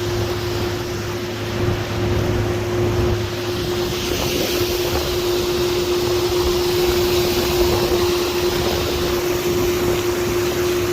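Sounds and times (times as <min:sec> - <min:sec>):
electric outboard motor whine: 0:00.0 - 0:10.9
water rushing: 0:00.0 - 0:10.9
wind: 0:00.0 - 0:10.9.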